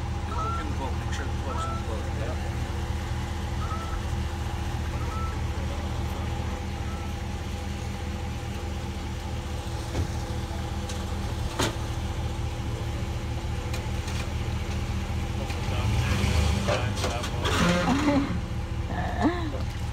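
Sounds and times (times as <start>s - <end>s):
engine idling: 0.0s - 19.9s.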